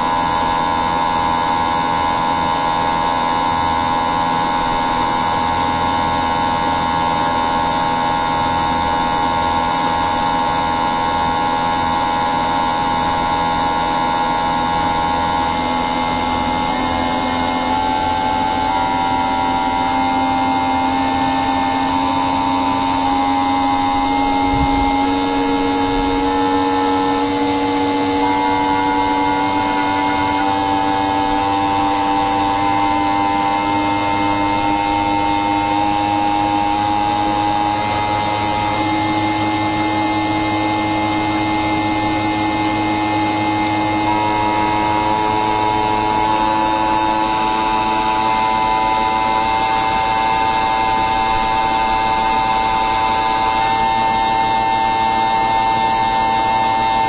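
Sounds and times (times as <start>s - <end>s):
machine electric whine: 0.0s - 57.0s.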